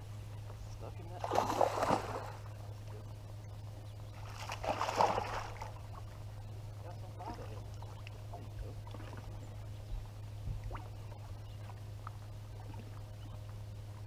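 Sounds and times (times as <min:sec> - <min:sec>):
steady low hum: 0:00.0 - 0:14.0
faint water splashes: 0:00.4 - 0:03.3, 0:04.1 - 0:14.0.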